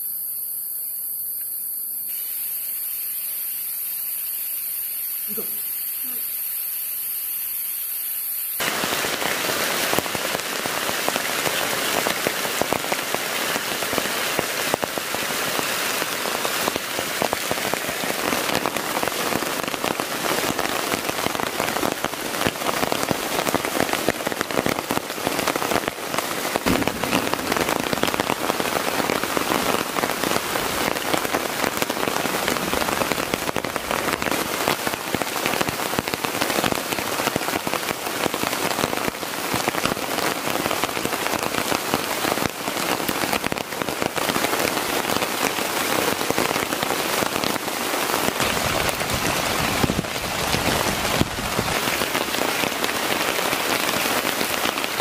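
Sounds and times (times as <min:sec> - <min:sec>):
heavy rain on tent: 0:02.1 - 0:55.0.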